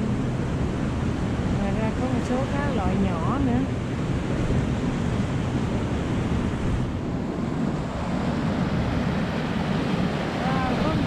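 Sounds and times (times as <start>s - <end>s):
river pouring over a dam: 0.0s - 11.0s
wind buffeting microphone: 0.0s - 11.0s.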